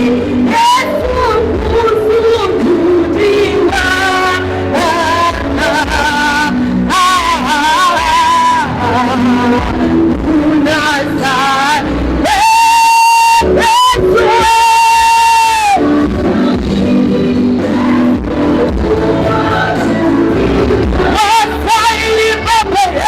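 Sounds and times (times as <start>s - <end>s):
gospel singing with band: 0.0s - 23.0s.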